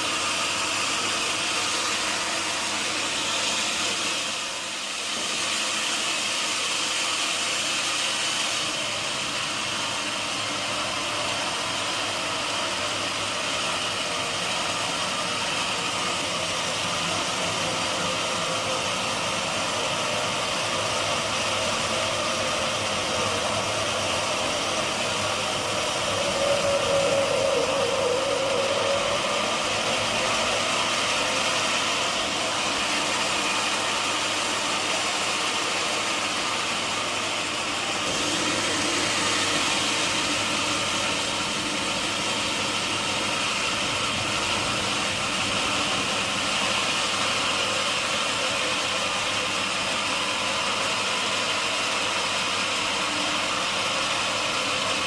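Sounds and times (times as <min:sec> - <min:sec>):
sawmill machinery hum and hiss: 0:00.0 - 0:55.0.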